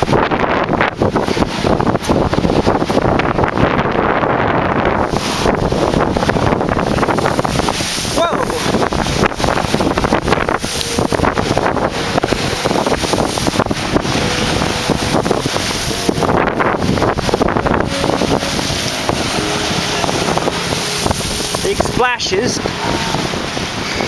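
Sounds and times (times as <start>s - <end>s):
waves splashing against seawall: 0.0s - 24.0s
wind buffeting microphone: 0.0s - 24.0s.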